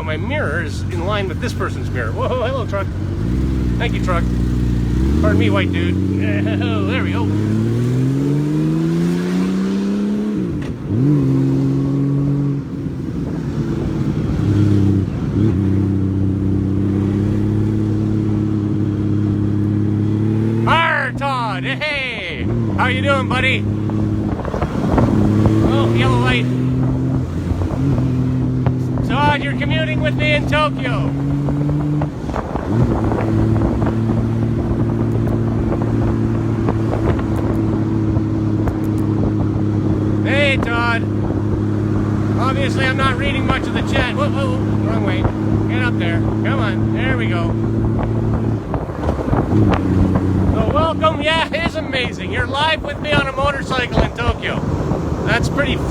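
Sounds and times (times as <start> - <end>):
motorcycle engine revving: 0.0 - 55.9
wind noise on microphone: 2.8 - 20.8, 21.8 - 55.9.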